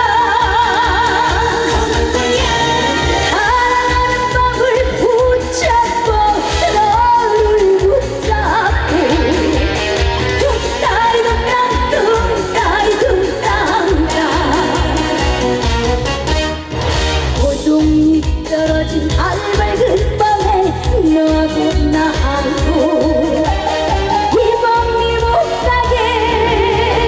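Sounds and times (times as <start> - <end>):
woman singing with vibrato: 0.0 - 15.6, 17.4 - 27.0
band playing steady beat: 0.0 - 27.0.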